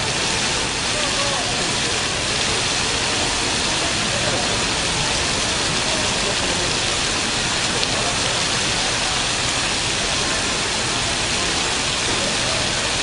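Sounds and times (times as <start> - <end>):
fountain water falling: 0.0 - 13.0.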